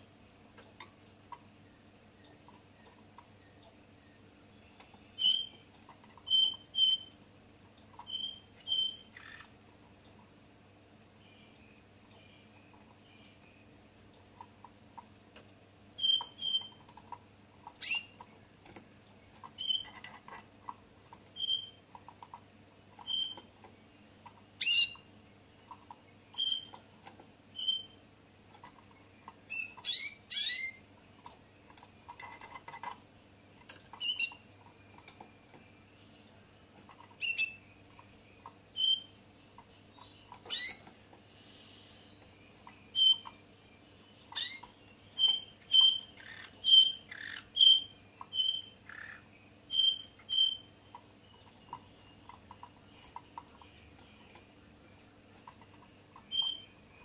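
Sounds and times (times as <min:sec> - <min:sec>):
finch chirping: 0:01.2 - 0:07.2, 0:07.9 - 0:09.6, 0:16.0 - 0:33.0, 0:33.6 - 0:41.0, 0:41.8 - 0:57.0.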